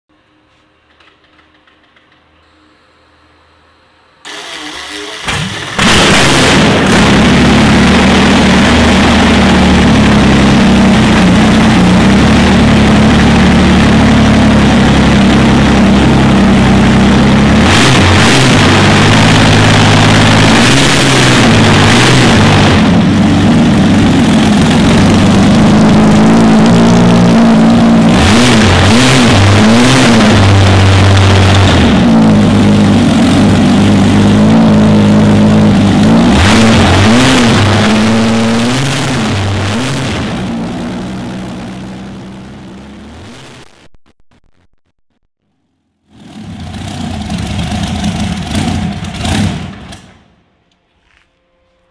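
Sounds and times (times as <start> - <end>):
tank engine starting and revving: 4.2 - 43.8, 46.1 - 50.5.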